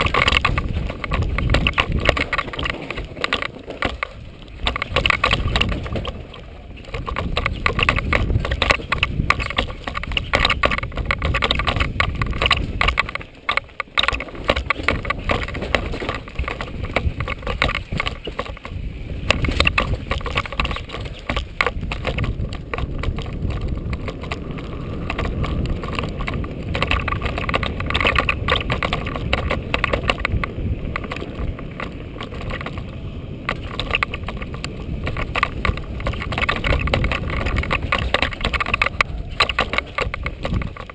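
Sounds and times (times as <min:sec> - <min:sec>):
bike clattering and rattling: 0:00.0 - 0:40.9
tyres rumbling over dirt and rocks: 0:00.0 - 0:40.9
wind rushing over microphone: 0:00.0 - 0:40.9.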